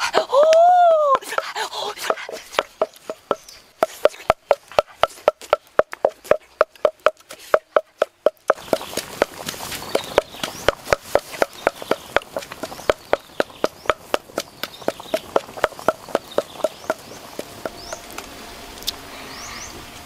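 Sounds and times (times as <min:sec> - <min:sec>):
rhythmic hollow clicking: 0:01.1 - 0:18.3.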